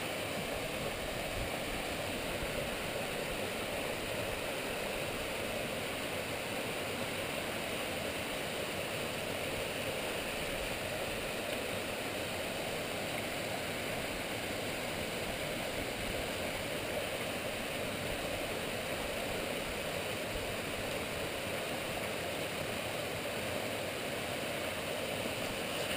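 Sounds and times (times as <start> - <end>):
waterfall rushing into pool: 0.0 - 25.9.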